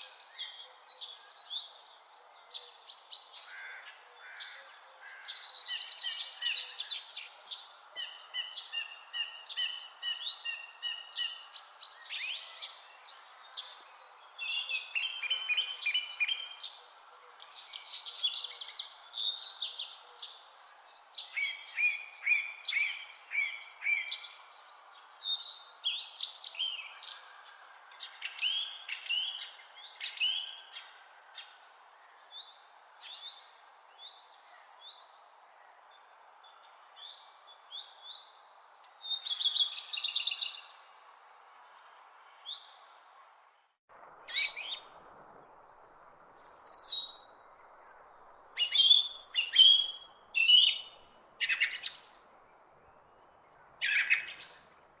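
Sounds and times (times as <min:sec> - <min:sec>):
faint background hiss: 0:00.0 - 0:55.0
songbirds singing and chirping: 0:00.0 - 0:55.0.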